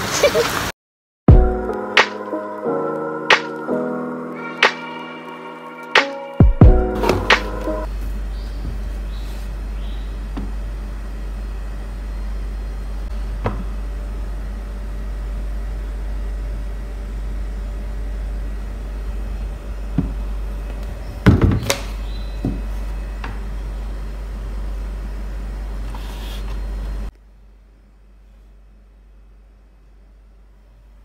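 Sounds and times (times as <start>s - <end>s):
steady low hum: 1.3s - 31.0s.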